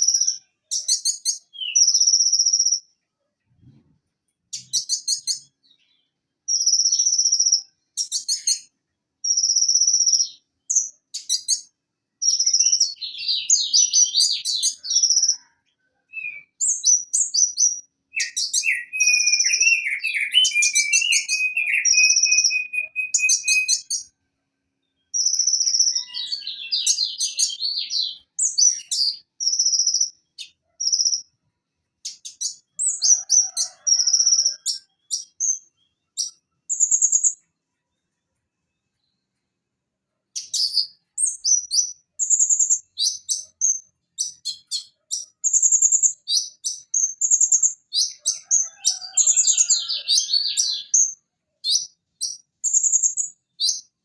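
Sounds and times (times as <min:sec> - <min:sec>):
bird singing high chirping song: 0:00.0 - 0:03.0, 0:04.5 - 0:24.1, 0:24.8 - 0:31.4, 0:32.0 - 0:37.5, 0:40.4 - 0:54.0.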